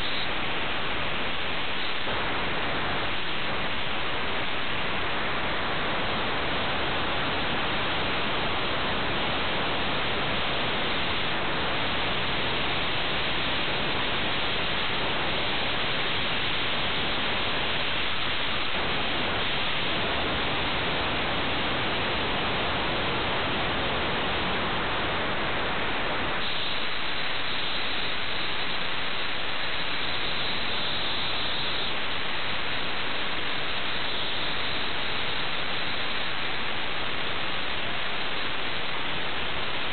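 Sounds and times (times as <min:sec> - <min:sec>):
steady static hiss: 0:00.0 - 0:39.9.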